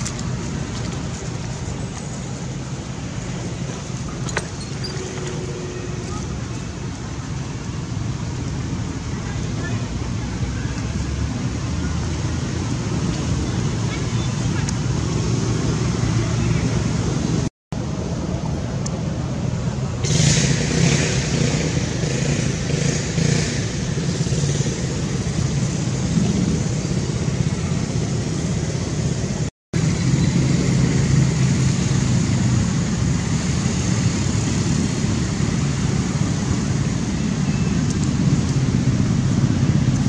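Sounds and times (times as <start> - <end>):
road traffic hum: 0.0 - 40.0.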